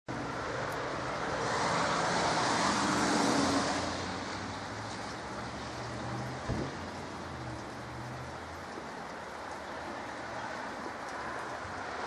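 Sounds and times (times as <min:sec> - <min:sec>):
tyres hissing on wet road: 0:00.1 - 0:12.0.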